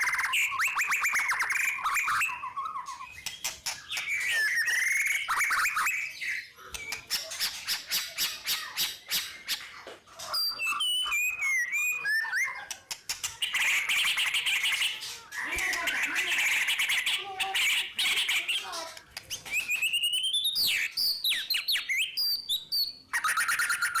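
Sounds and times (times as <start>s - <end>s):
bird singing trills and whistles: 0.0s - 24.0s.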